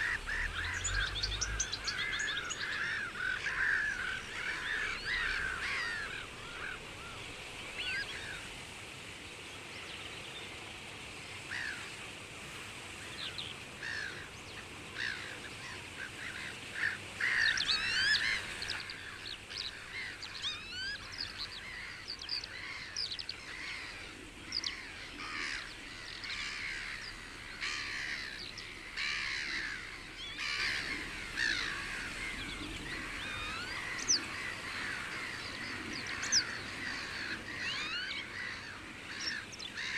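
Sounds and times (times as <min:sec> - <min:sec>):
small birds chirping: 0:00.0 - 0:08.6, 0:13.0 - 0:39.9
faint outdoor hiss: 0:00.0 - 0:39.9.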